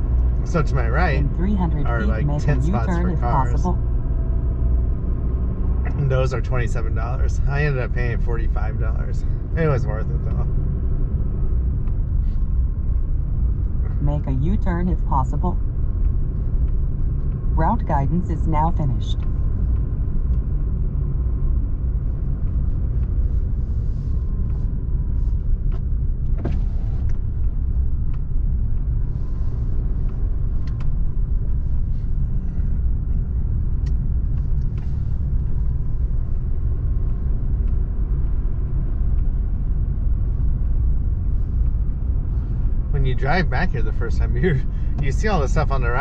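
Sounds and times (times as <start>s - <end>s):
car engine and tyres rumbling: 0.0s - 46.0s.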